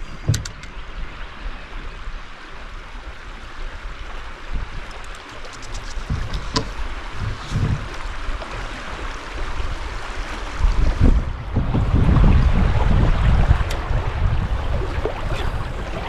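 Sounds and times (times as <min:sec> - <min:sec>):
river water rushing and splashing: 0:00.0 - 0:16.0.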